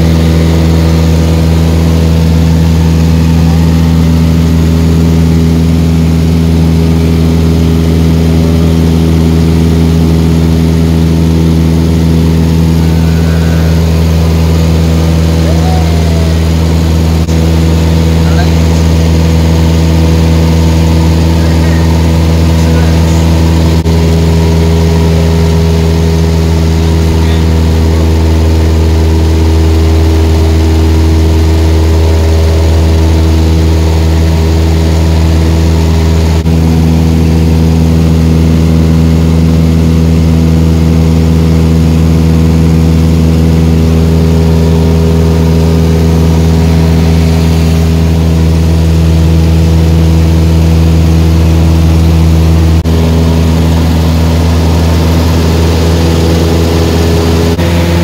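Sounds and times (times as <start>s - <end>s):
light airplane engine drone: 0.0s - 58.0s.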